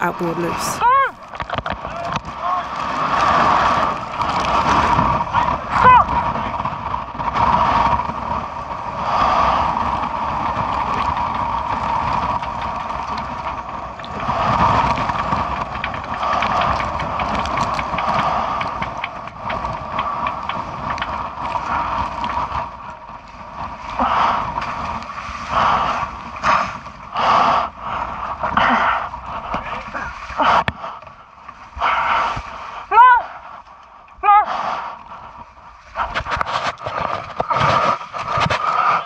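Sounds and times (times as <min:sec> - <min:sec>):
wind buffeting microphone: 0:00.0 - 0:33.4.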